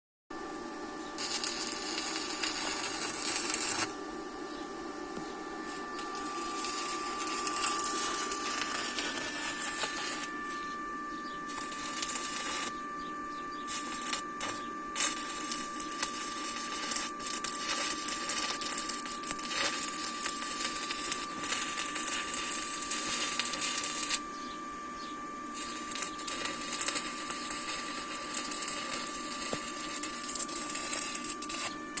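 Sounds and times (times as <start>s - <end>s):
steady high-pitched tone: 0.4s - 32.0s
welding arc crackling: 1.2s - 4.1s, 5.6s - 10.8s, 11.5s - 12.8s, 13.6s - 24.3s, 25.4s - 32.0s.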